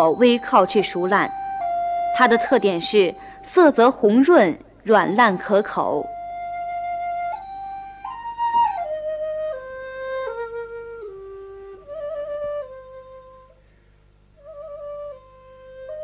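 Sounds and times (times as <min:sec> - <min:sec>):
slow solo flute melody: 0:00.0 - 0:03.7, 0:05.2 - 0:13.6, 0:14.4 - 0:16.0.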